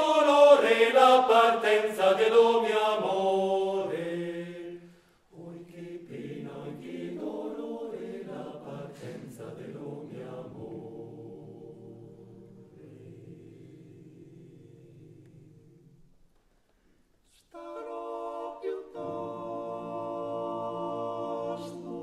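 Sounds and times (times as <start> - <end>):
male a cappella choir singing: 0.0 - 16.1, 17.3 - 22.0.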